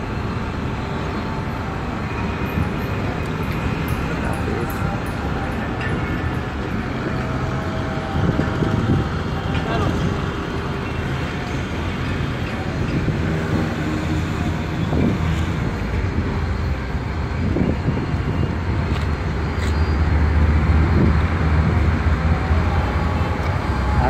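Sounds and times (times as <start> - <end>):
train rolling over rails: 0.6 - 24.0.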